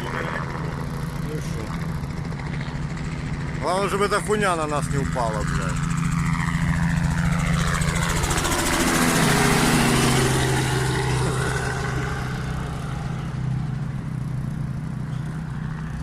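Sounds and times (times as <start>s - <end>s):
helicopter flying overhead: 0.0s - 16.0s.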